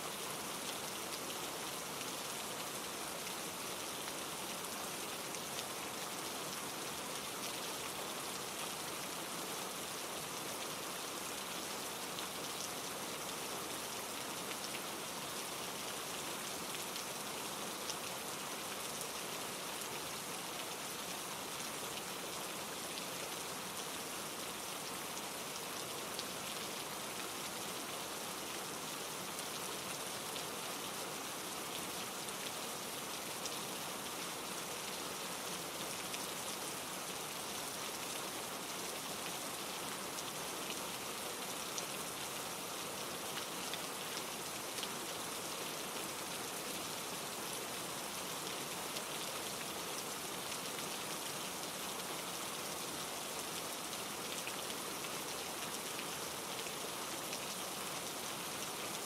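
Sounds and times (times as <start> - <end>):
rain falling through trees: 0.0 - 59.0.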